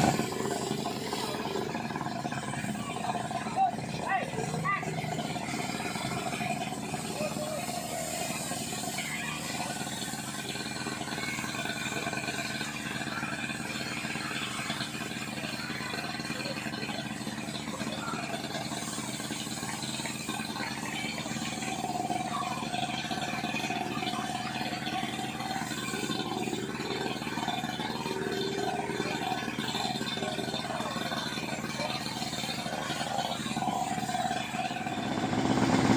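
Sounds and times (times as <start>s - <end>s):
pump engine running: 0.0s - 35.9s.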